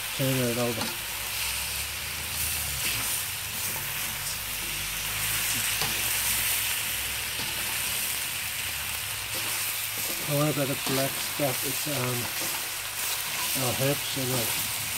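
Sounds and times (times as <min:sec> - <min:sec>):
meat and vegetables sizzling in wok: 0:00.0 - 0:14.9
spoon stirring in wok: 0:02.7 - 0:14.9.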